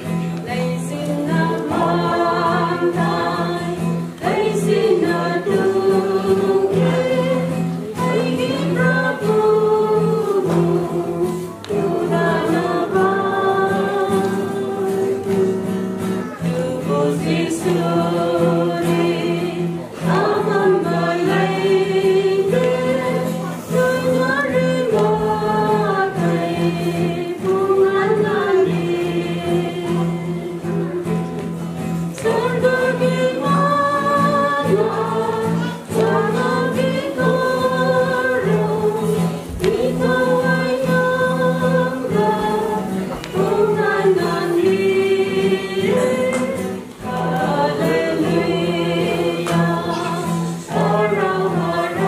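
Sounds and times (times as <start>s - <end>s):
group singing a hymn in harmony: 0.0s - 52.0s.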